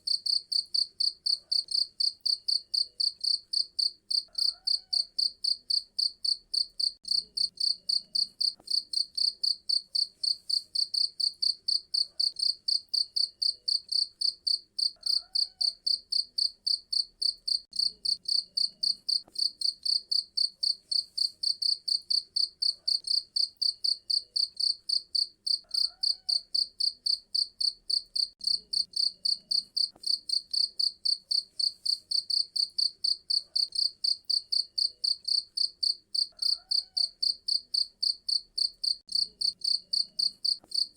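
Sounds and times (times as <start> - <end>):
cricket chirping: 0.1 - 40.9.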